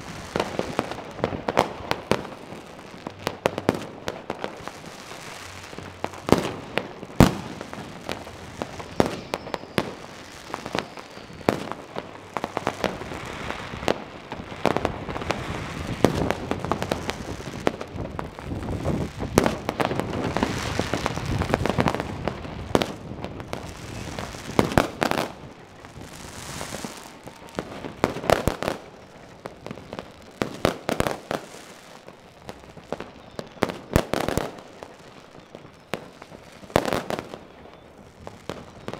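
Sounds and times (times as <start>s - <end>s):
firecrackers crackling: 0.0s - 38.9s
fireworks banging: 0.0s - 38.9s.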